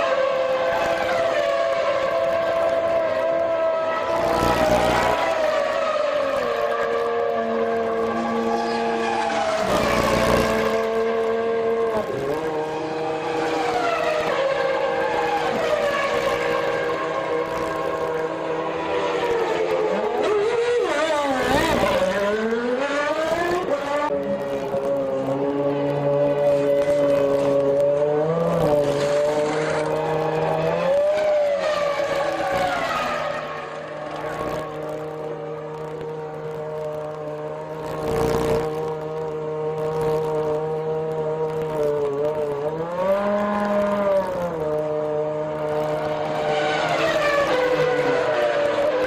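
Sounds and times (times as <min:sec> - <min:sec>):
racing car engines passing: 0:00.0 - 0:49.0.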